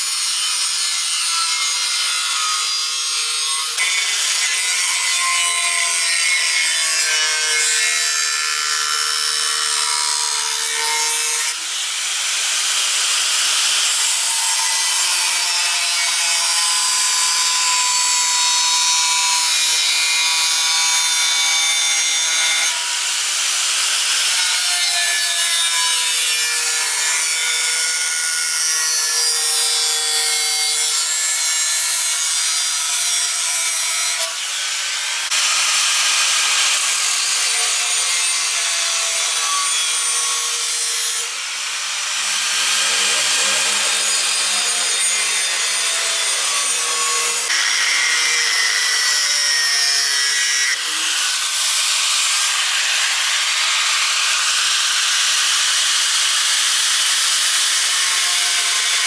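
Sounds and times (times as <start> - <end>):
angle grinder cutting metal: 0.0 - 59.0.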